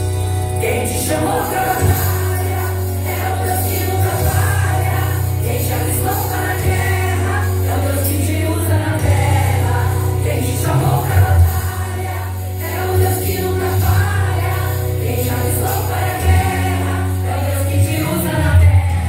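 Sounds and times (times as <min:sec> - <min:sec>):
women's choir singing: 0:00.5 - 0:19.0.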